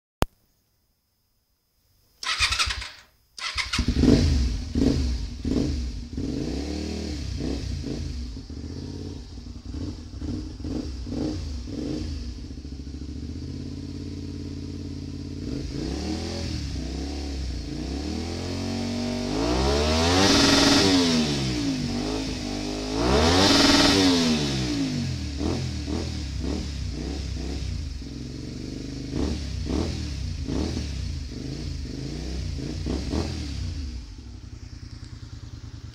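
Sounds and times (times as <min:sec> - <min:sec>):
motorcycle engine revving: 0:02.2 - 0:35.9.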